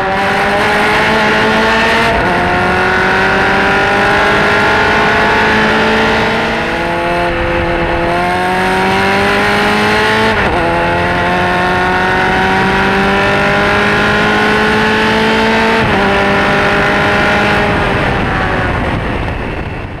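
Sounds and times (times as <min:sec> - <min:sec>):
race car engine under power: 0:00.0 - 0:19.7.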